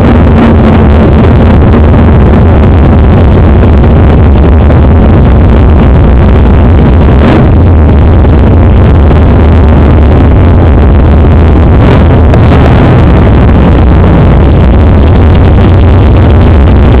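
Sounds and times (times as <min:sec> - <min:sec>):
loud car engine running: 0:00.0 - 0:17.0.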